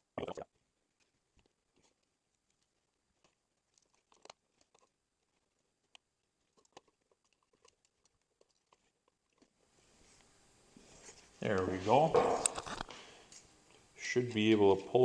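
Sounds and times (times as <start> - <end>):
small clicks and scrapes of handling: 0.9 - 11.7, 12.4 - 14.5.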